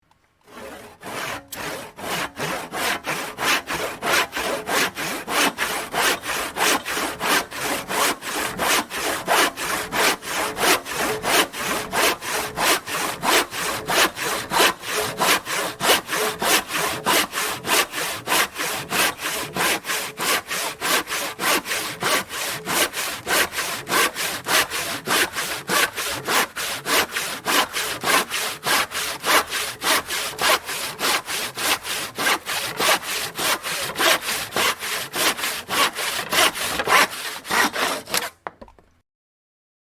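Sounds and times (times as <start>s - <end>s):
handsaw cutting wood: 0.4s - 38.5s.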